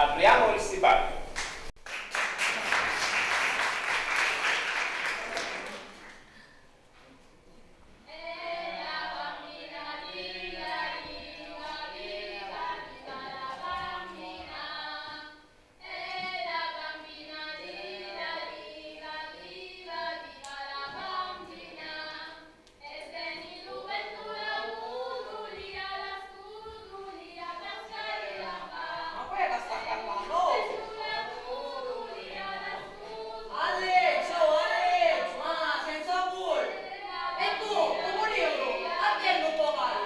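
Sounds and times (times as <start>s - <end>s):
group singing with music: 2.3s - 7.1s, 8.0s - 40.0s.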